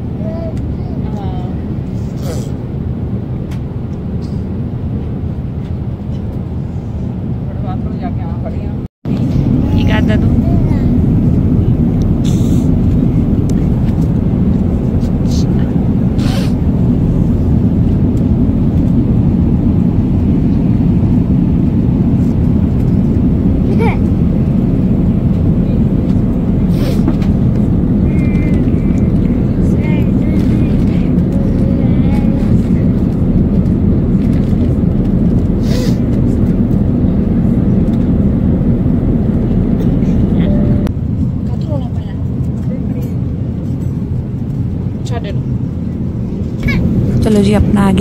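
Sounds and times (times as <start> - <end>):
airliner cabin engine drone: 0.0 - 48.0.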